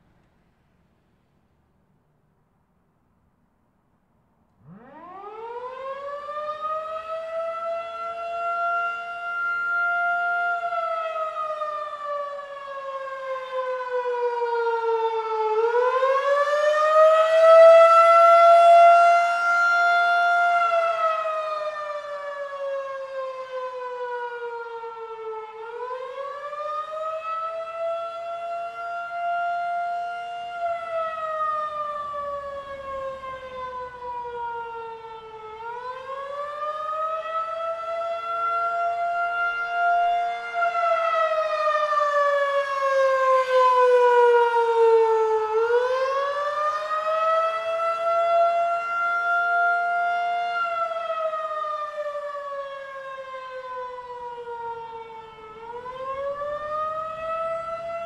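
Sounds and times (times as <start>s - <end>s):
rotating warning siren: 4.5s - 58.0s.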